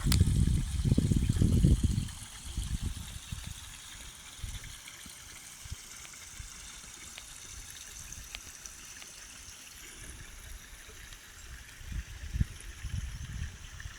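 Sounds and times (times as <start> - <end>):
trickle of water running: 0.0 - 13.9.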